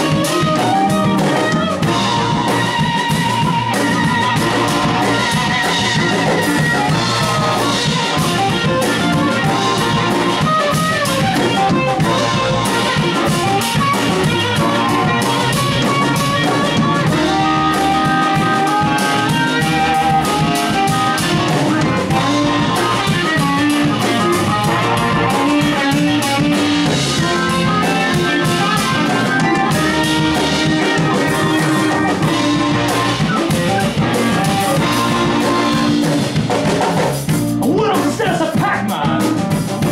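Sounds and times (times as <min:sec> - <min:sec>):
blues guitar: 0:00.0 - 0:39.9
drum kit steady beat: 0:00.0 - 0:39.9.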